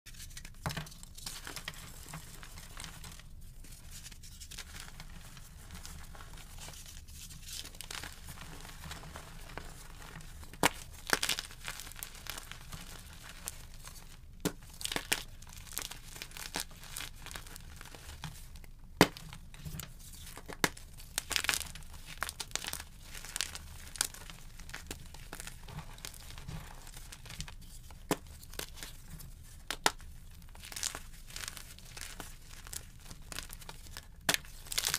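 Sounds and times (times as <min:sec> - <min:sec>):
chalk crunching and crumbling: 0:01.1 - 0:34.9.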